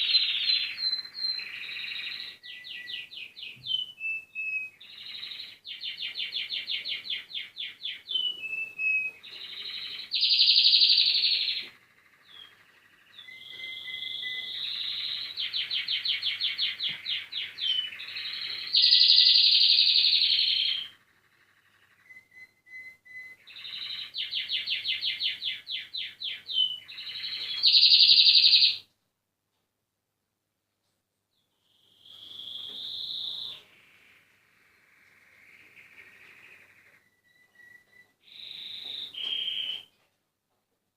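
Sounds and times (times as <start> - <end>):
canaries singing trills: 0.0 - 28.9, 31.3 - 40.0.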